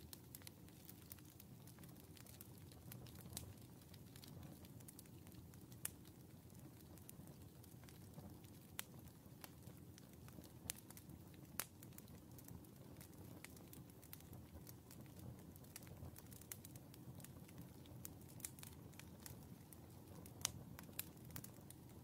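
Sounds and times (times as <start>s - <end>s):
logs crackling and popping: 0.0s - 22.0s.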